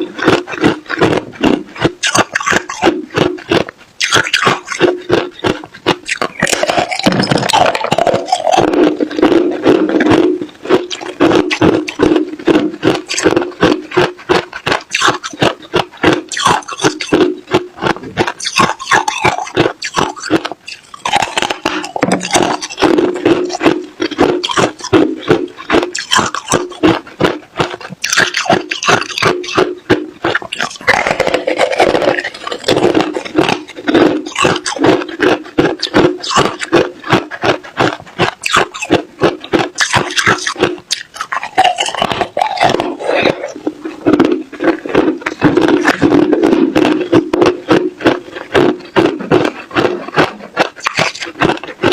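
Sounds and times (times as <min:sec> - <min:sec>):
ice crunching between teeth: 0:00.0 - 0:51.9.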